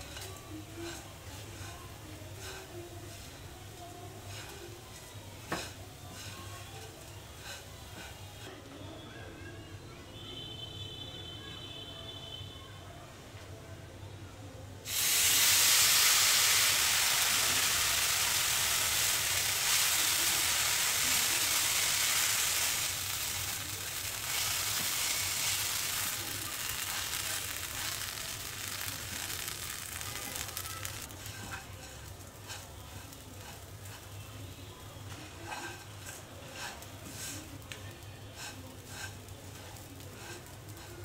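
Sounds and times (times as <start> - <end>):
liquid sizzling in hot pan: 0.0 - 8.5, 14.9 - 41.0.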